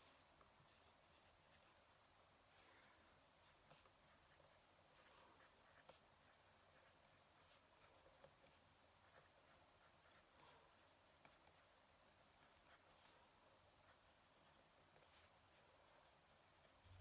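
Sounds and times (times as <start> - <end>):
pen nib scratching on paper: 2.5 - 17.0.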